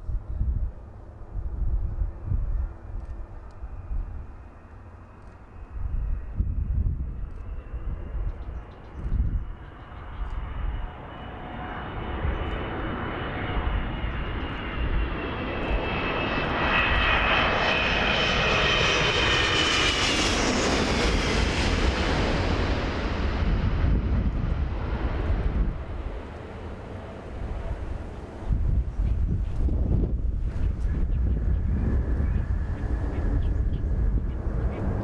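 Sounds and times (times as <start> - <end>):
airliner passing low overhead: 0.0 - 35.0.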